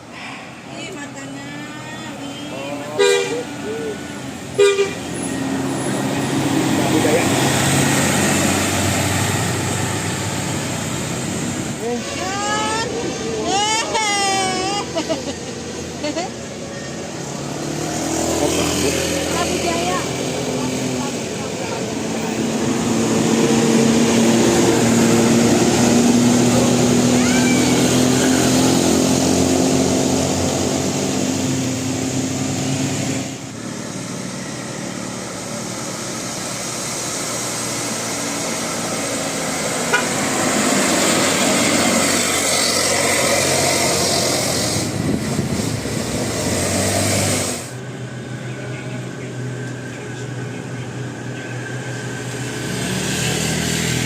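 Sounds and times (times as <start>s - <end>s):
buses driving past: 0.0s - 54.0s
road noise: 0.0s - 54.0s.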